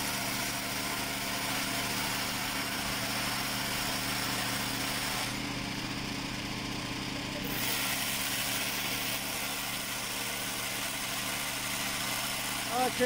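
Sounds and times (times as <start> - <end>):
motor engine drone: 0.0 - 13.0.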